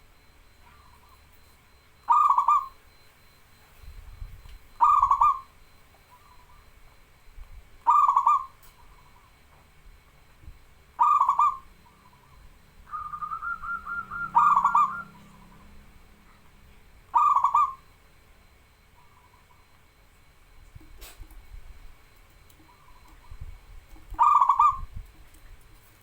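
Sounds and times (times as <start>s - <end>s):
dove cooing: 0.0s - 6.8s, 7.8s - 9.5s, 10.4s - 20.0s, 20.7s - 26.0s.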